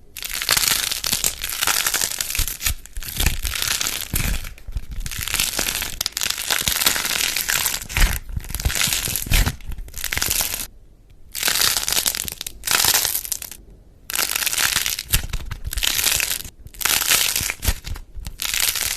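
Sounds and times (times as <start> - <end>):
crackling and crunching by hand: 0.0 - 10.7, 11.3 - 18.9.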